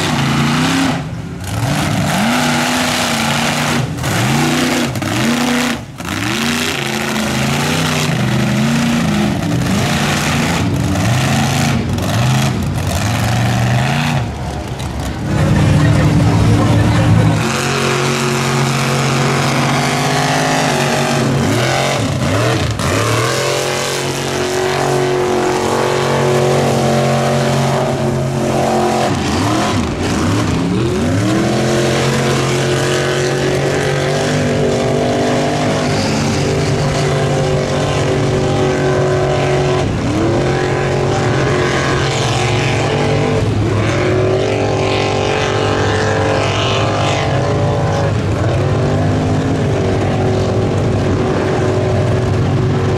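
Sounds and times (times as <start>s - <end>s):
truck engines revving hard: 0.0s - 52.9s.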